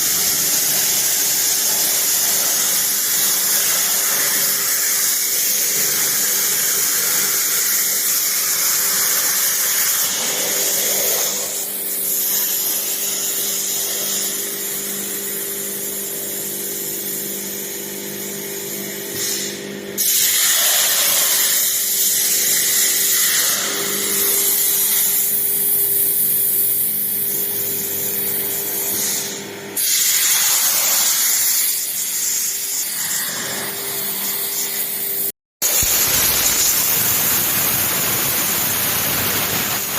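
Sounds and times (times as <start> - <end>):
plasma cutter hissing: 0.0 - 15.7, 18.6 - 27.2, 28.2 - 33.6, 35.6 - 39.9.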